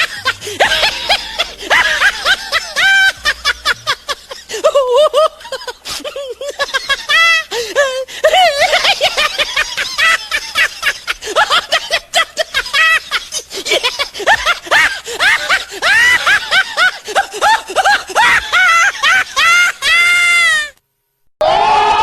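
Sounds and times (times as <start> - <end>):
high-pitched laughter: 0.0 - 20.7.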